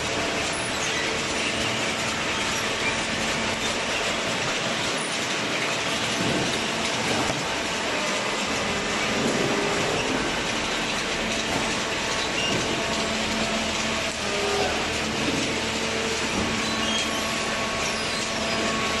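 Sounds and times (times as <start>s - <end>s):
baler mechanical noise: 0.0s - 19.0s.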